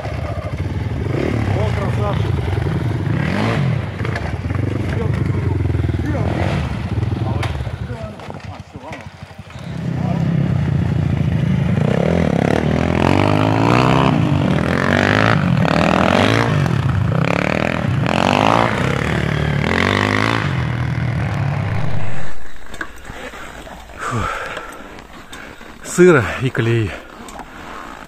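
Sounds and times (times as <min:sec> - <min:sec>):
dirt bikes revving past: 0:00.0 - 0:28.0.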